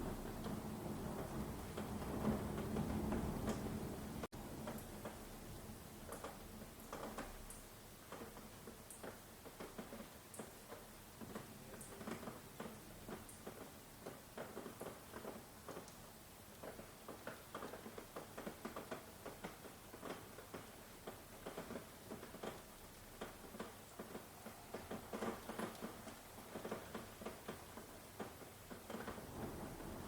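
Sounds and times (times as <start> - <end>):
rain drops tapping: 0.0 - 30.0.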